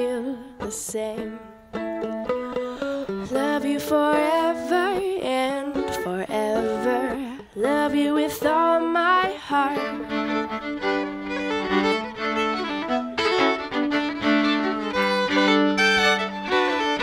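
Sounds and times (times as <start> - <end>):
mandolin: 0.0 - 17.0
fiddles playing a jig: 1.2 - 17.0.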